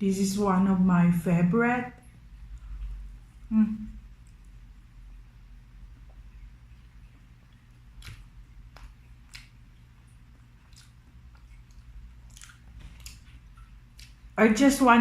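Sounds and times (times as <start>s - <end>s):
low steady hum: 0.0s - 15.0s
soft chewing and mouth smacks: 2.0s - 14.4s.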